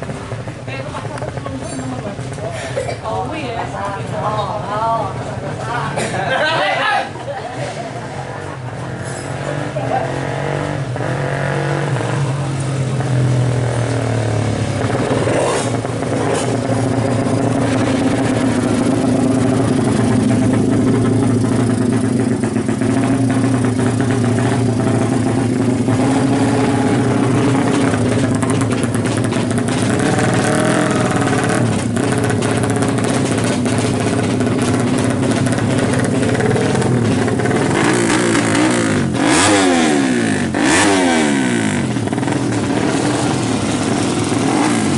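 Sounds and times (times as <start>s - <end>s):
motorcycle engine revving: 7.2s - 44.9s.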